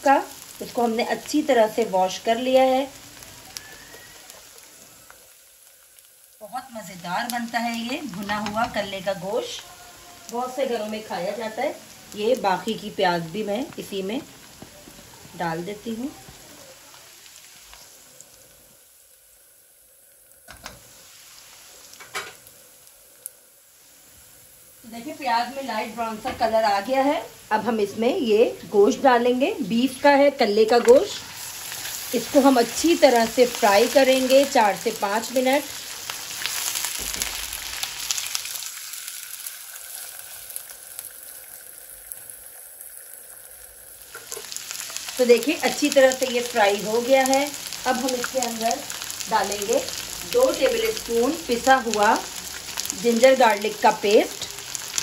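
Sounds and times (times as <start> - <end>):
onions sizzling in hot oil: 0.0 - 55.0.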